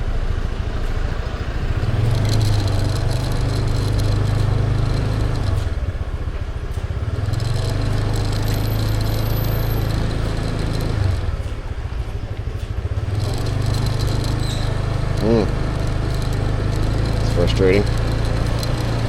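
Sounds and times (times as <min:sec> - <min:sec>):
motor scooter engine running: 0:00.3 - 0:19.0.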